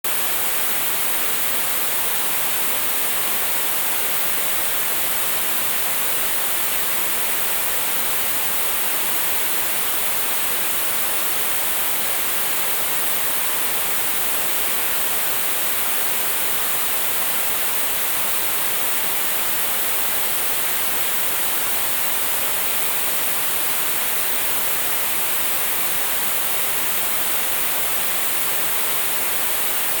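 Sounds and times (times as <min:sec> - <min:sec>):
television static hiss: 0:00.1 - 0:30.0.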